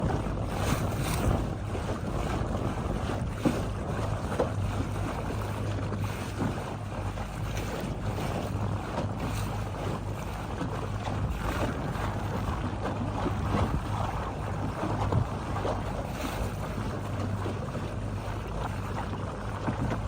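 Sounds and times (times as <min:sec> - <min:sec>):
boat engine humming: 0:00.0 - 0:20.0
wind buffeting microphone: 0:00.0 - 0:20.0.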